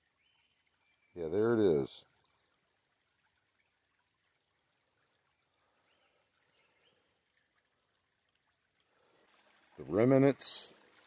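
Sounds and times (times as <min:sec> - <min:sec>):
faint trickle of creek water: 0:00.0 - 0:11.0.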